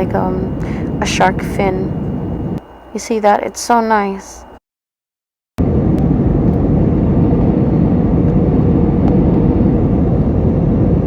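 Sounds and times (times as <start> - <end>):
airliner cabin engine rumble: 0.0 - 4.6, 5.6 - 11.0.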